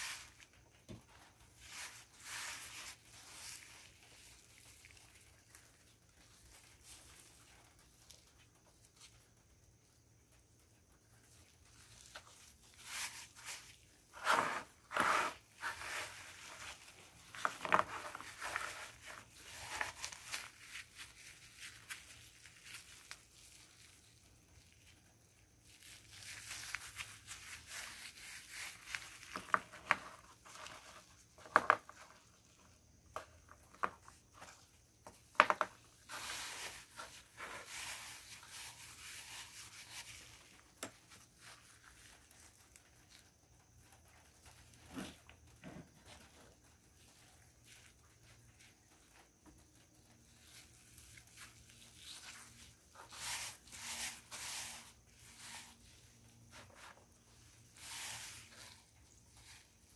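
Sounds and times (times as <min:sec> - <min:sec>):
mothballs crunching: 0:00.0 - 0:09.9, 0:11.0 - 0:59.9.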